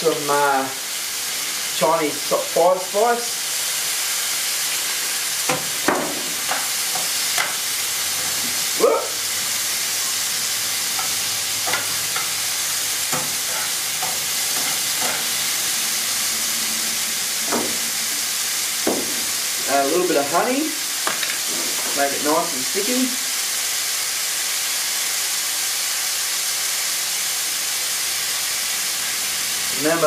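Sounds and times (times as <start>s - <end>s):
meat sizzling in a frying pan: 0.0s - 30.0s.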